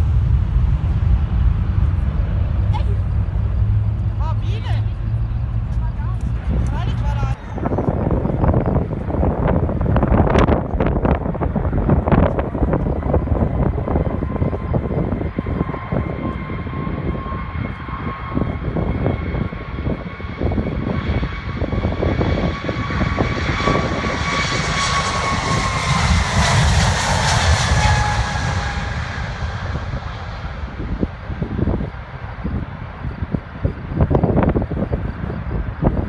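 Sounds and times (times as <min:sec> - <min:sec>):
jet airliner engine whine: 0:00.0 - 0:36.0
wind buffeting microphone: 0:00.0 - 0:36.0.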